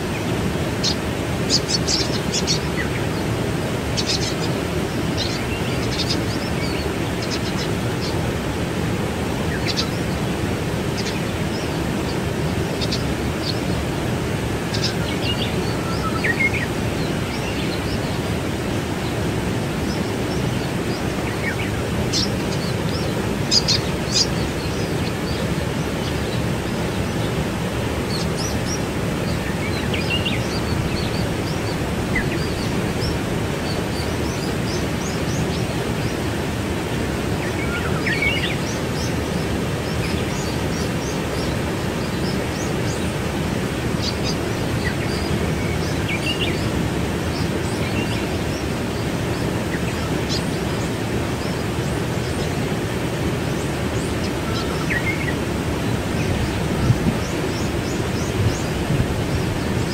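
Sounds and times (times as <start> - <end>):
birds chirping: 0.0 - 59.9
waterfall rushing: 0.0 - 59.9.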